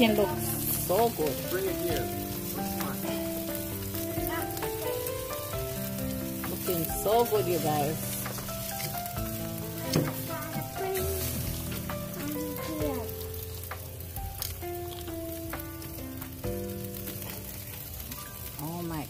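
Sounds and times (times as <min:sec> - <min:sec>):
background music: 0:00.0 - 0:19.0
chicken sizzling on a grill: 0:00.0 - 0:19.0.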